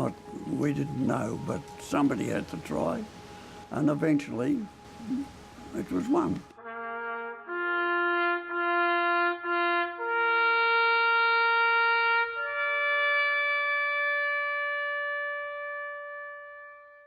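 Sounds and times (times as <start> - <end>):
solo trumpet playing: 0.0 - 17.0.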